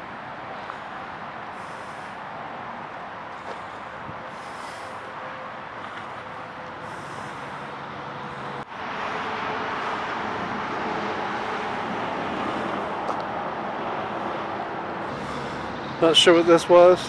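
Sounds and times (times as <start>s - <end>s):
highway traffic rushing: 0.0s - 17.0s.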